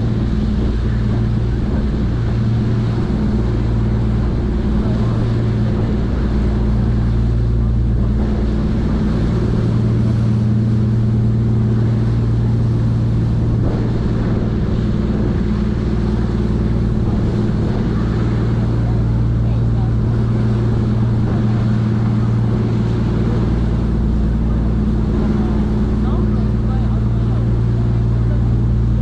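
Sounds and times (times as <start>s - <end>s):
propeller wake rushing: 0.0s - 29.0s
ship engines droning: 0.0s - 29.0s.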